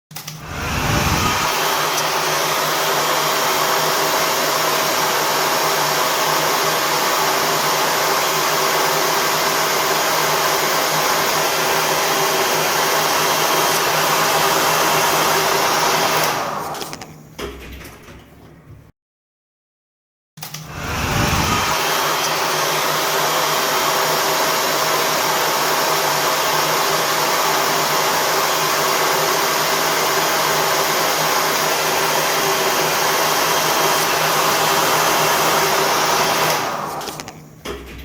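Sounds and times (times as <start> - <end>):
hair dryer blowing: 0.2 - 17.1, 20.5 - 37.4.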